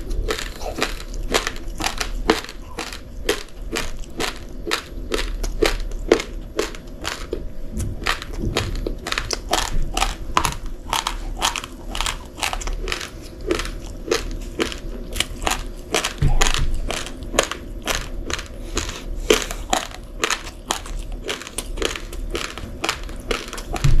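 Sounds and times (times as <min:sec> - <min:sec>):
person chewing raw rice: 0:00.0 - 0:24.0.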